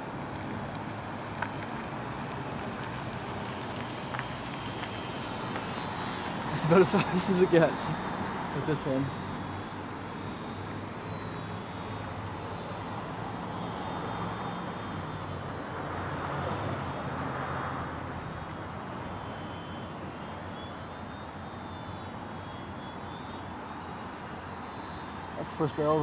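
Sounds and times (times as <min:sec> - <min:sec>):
model plane motor whine: 0:00.0 - 0:26.0
steady low hum: 0:00.0 - 0:26.0.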